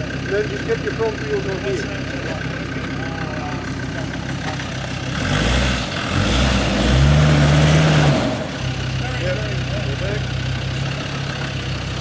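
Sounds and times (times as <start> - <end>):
engine idling and revving: 0.0 - 12.0.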